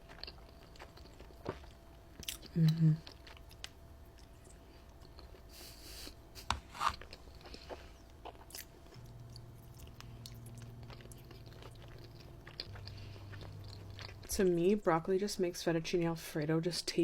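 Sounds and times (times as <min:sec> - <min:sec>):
person chewing pasta: 0:00.0 - 0:14.8
faint low hum: 0:00.0 - 0:17.0.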